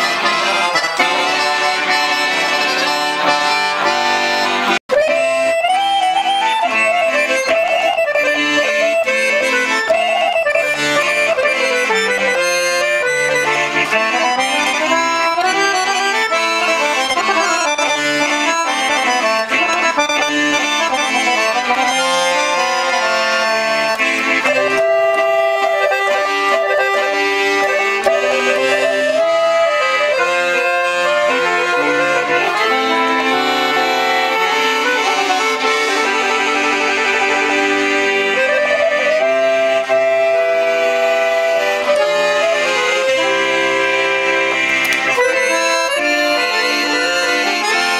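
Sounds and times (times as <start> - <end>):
accordion melody: 0.0 - 47.9.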